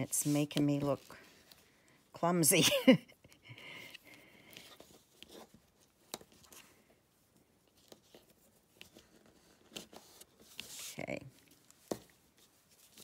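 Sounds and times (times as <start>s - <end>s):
faint rustling of twine and card: 0.0s - 2.3s, 3.4s - 13.0s.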